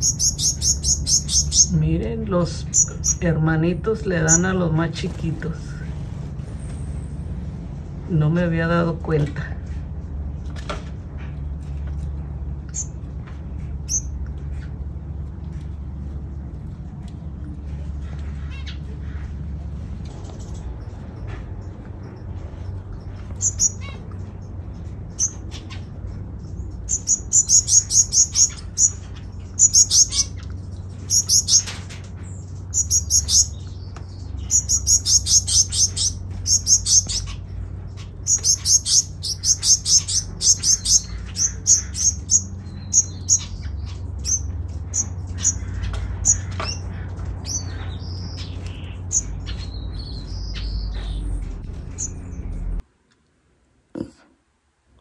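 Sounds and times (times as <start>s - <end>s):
small birds chirping: 0.0s - 52.8s
steady low hum: 0.0s - 55.0s.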